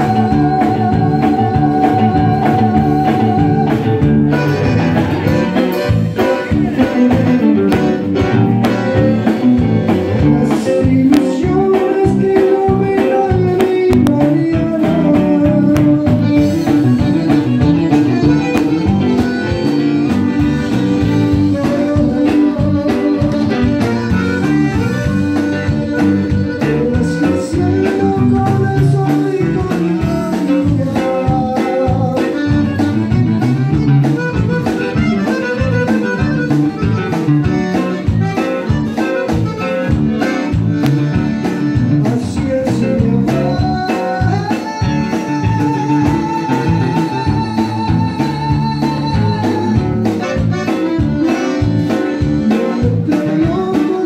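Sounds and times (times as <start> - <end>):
button accordion melody: 0.0 - 54.0
drum kit steady beat: 0.0 - 54.0
electric bass: 0.0 - 54.0
electric guitar: 0.0 - 54.0.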